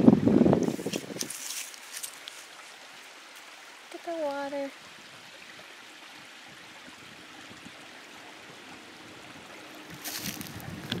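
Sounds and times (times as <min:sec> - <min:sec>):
stream babbling: 0:00.0 - 0:11.0.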